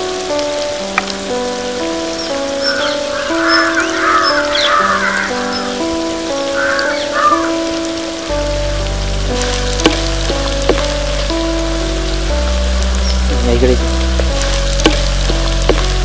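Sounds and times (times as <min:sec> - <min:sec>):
keyboard music with bass: 0:00.0 - 0:16.0.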